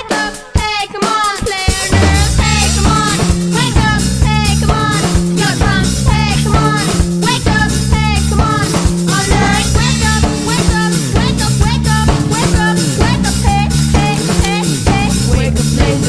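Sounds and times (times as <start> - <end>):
background music with drum beat: 0.0 - 16.0.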